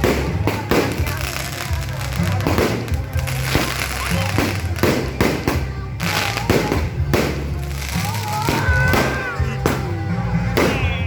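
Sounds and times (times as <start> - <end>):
fireworks banging: 0.0 - 11.0
loud music with bass: 0.0 - 11.0
voices: 0.0 - 11.0.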